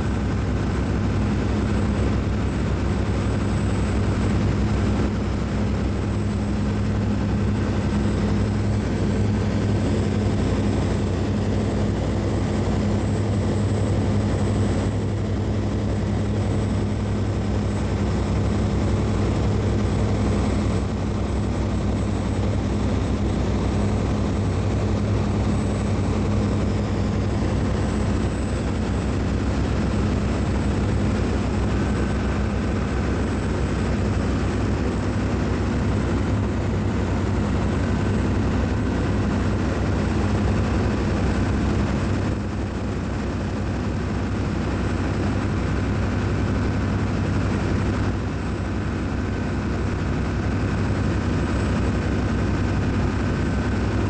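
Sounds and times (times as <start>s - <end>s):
ship machinery low hum: 0.0s - 54.0s.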